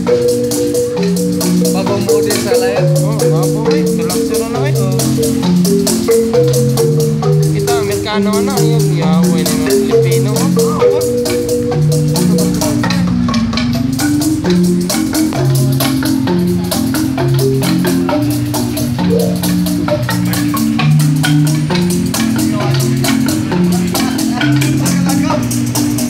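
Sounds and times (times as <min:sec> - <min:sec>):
wooden marimba melody: 0:00.0 - 0:26.0.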